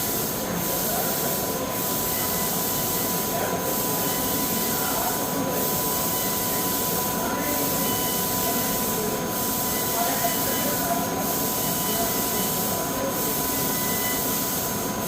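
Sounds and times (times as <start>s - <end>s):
high machine whine: 0.0s - 15.0s.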